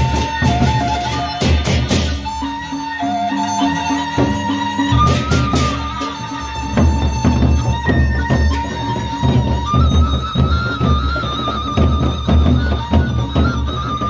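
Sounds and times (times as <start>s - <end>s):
barrel drums beating: 0.0s - 14.0s
held high melody note: 0.0s - 14.0s.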